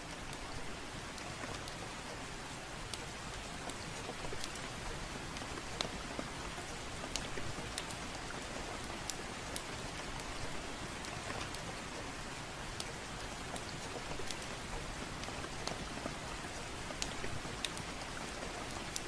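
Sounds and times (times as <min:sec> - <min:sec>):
soft rain falling: 0:00.0 - 0:19.0.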